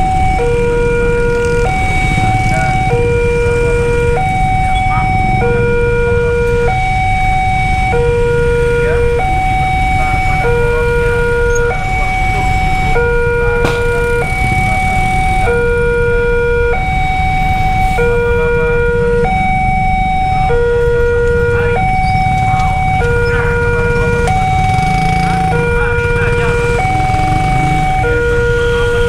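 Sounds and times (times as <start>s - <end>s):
two-tone crossing alarm: 0.0s - 29.0s.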